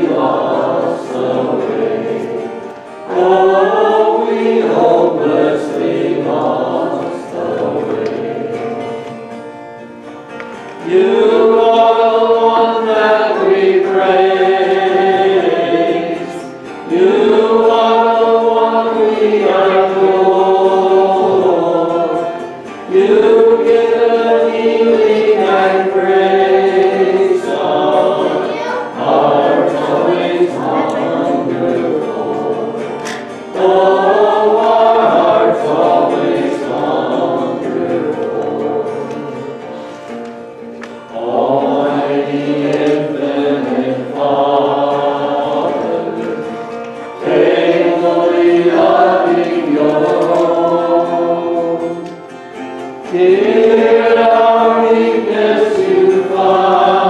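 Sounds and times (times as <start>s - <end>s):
guitar accompaniment: 0.0s - 57.0s
people singing a hymn: 0.0s - 57.0s.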